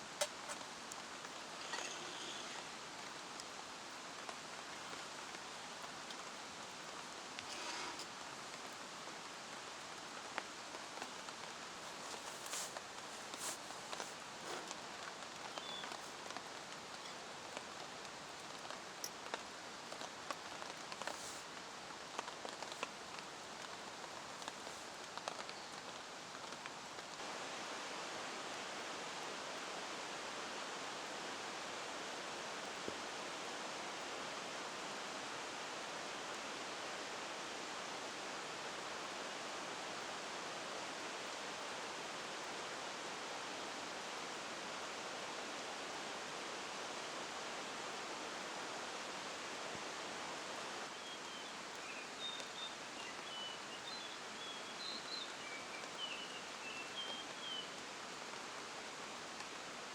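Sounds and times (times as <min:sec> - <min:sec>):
rain falling: 0:00.0 - 0:59.9
raindrops ticking on surfaces: 0:00.0 - 0:59.9.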